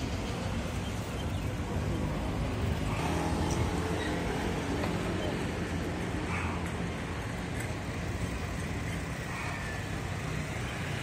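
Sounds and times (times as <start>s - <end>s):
cars and scooters running: 0.0s - 11.0s
city street traffic: 0.0s - 11.0s.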